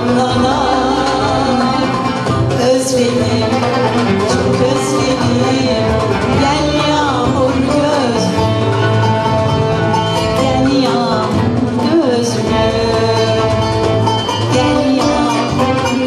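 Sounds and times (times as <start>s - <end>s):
woman singing: 0.0s - 9.0s, 10.1s - 16.0s
plucked strings: 0.0s - 16.0s.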